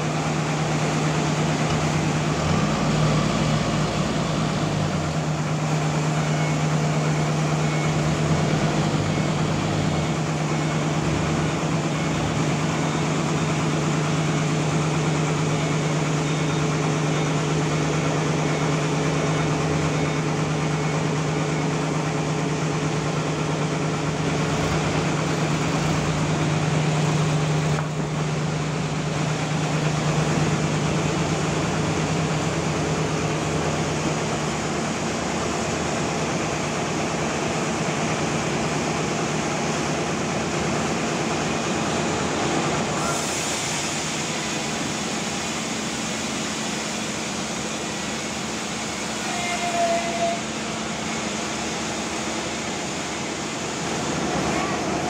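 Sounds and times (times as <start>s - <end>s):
sawmill machine hum: 0.0s - 55.0s.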